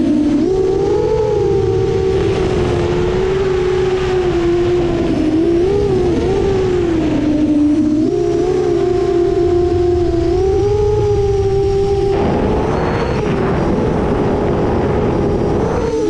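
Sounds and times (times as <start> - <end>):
drone motors whining: 0.0 - 16.0
wind rushing: 0.4 - 16.0.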